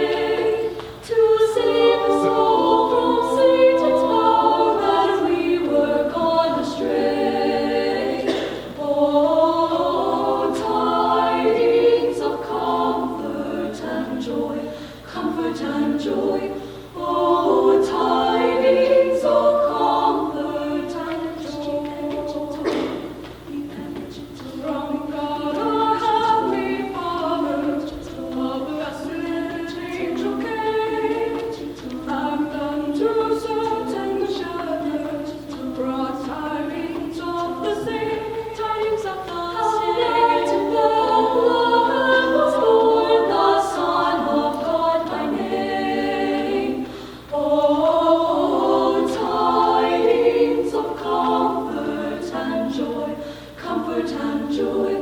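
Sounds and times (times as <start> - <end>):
choir singing a cappella: 0.0 - 55.0.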